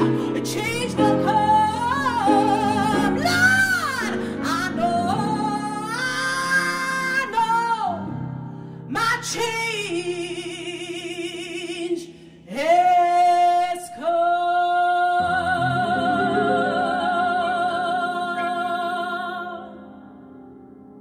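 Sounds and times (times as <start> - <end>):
woman singing: 0.0 - 8.3, 8.9 - 20.1
piano: 0.0 - 21.0.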